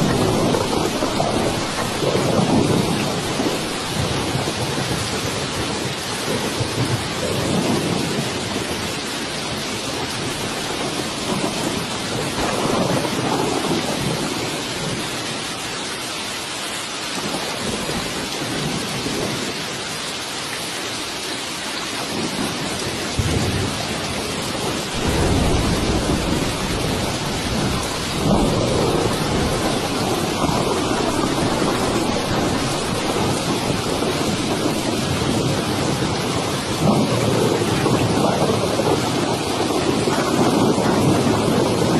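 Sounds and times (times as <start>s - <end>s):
low rolling thunder: 0.0s - 15.6s, 17.2s - 19.9s, 22.0s - 41.9s
heavy rain hiss: 0.0s - 41.9s.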